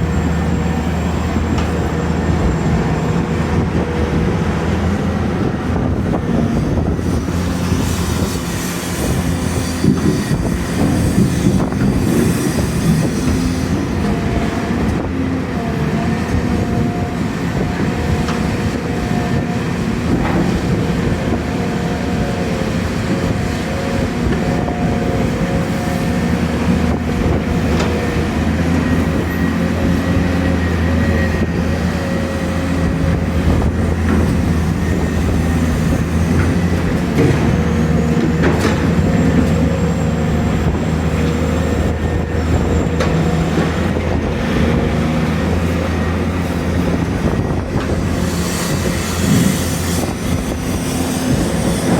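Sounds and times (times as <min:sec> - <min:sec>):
excavator engines under load: 0:00.0 - 0:51.9
hydraulic whine: 0:00.0 - 0:51.9.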